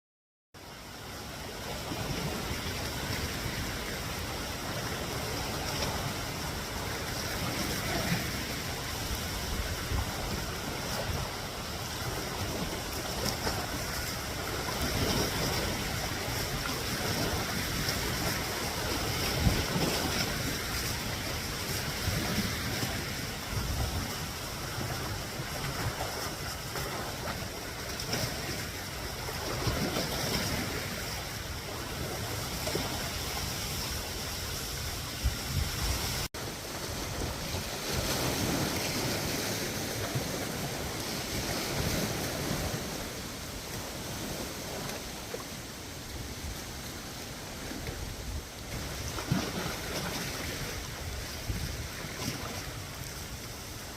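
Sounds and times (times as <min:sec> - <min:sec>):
small waves washing on shore: 0:00.6 - 0:53.9
wind gusting on microphone: 0:01.5 - 0:53.9.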